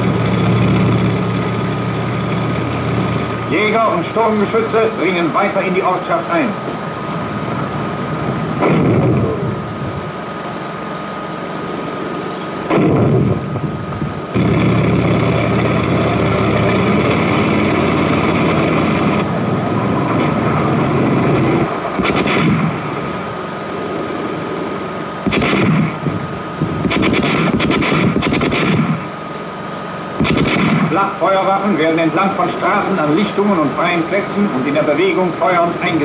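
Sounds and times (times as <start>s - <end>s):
loud bangs: 0.0s - 33.8s
thin steady soundtrack hum: 0.0s - 36.0s
vehicle engine running: 0.0s - 36.0s.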